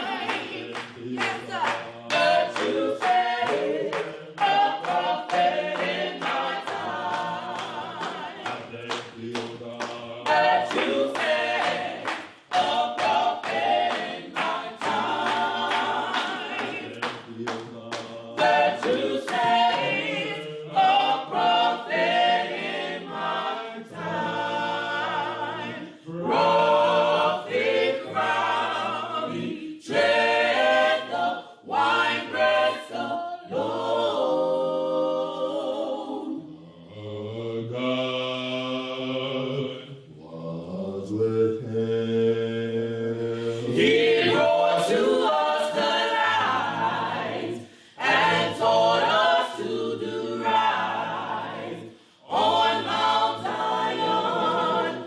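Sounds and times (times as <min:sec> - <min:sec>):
choir singing a cappella gospel: 0:00.0 - 0:55.0.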